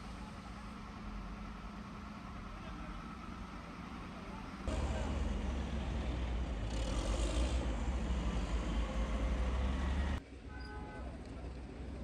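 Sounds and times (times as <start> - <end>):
heavy diesel machinery rumbling: 0.0 - 10.2.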